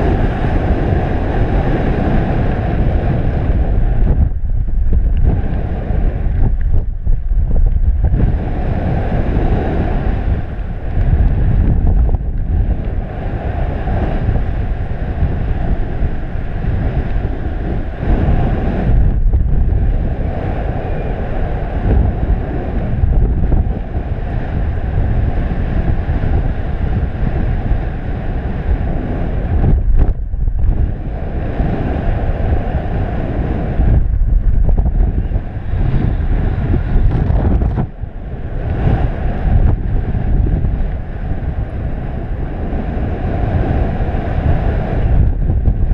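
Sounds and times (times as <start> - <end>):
wind noise on microphone: 0.0 - 45.9.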